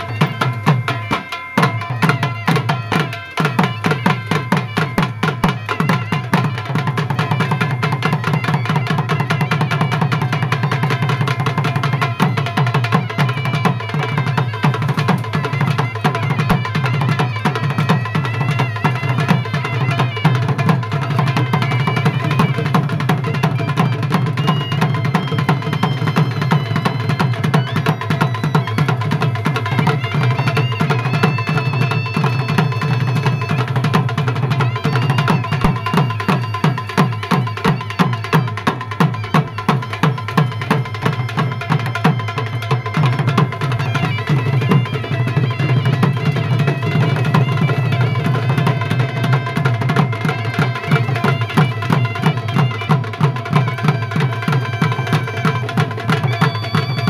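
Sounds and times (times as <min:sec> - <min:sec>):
fast drum beats: 0:00.0 - 0:57.0
held high melody: 0:00.0 - 0:57.0.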